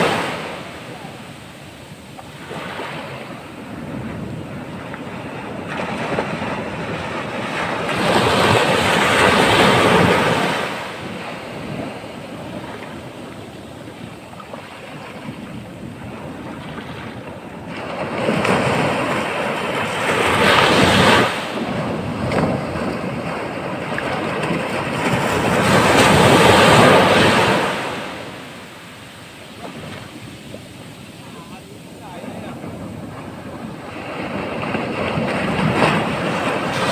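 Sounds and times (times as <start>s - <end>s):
rushing water: 0.0s - 36.9s
waves breaking on shore: 0.0s - 36.9s.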